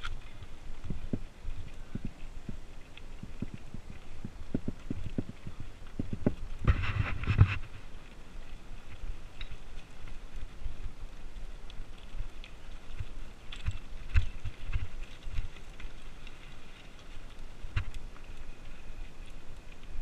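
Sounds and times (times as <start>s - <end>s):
bike tyres rattling on stones: 0.0s - 20.0s.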